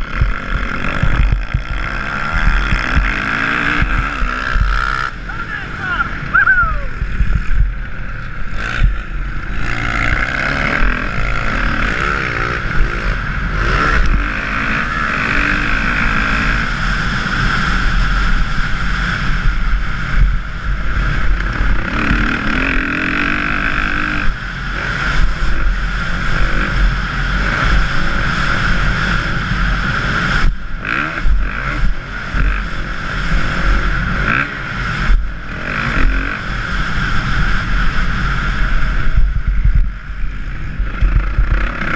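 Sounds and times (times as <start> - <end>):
dirt bike engine revving: 0.0 - 41.9
wind on microphone: 0.0 - 41.9.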